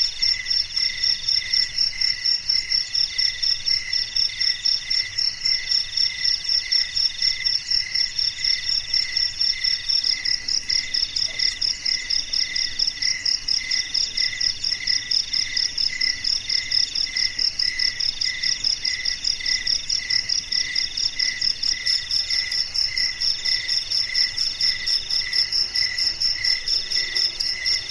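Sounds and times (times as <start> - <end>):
fast high cricket pulsing: 0.0 - 27.9
insect trill: 0.0 - 27.9
lower cricket chirp: 0.0 - 27.9.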